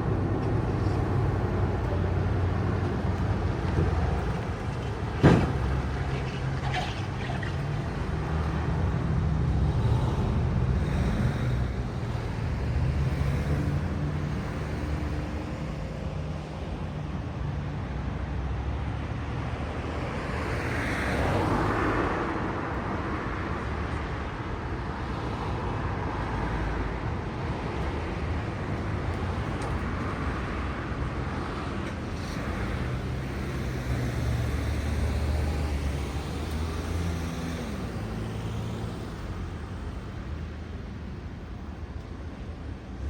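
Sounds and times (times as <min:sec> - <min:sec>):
vehicles passing: 0:00.0 - 0:43.0.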